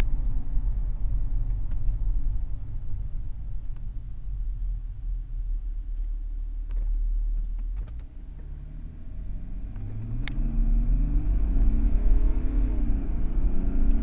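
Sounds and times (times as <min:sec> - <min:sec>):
diesel engine accelerating: 0:00.0 - 0:14.0.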